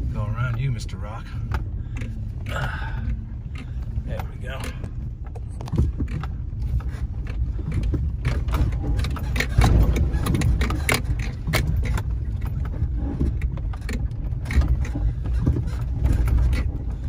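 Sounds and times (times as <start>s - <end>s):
low engine and tyre rumble: 0.0s - 17.0s
vehicle body knocks and rattles: 0.0s - 17.0s.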